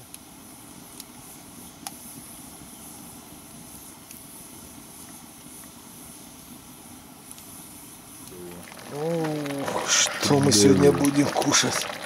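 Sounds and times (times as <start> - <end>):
fire crackles: 0.0 - 12.0
wood fire burning: 0.0 - 12.0.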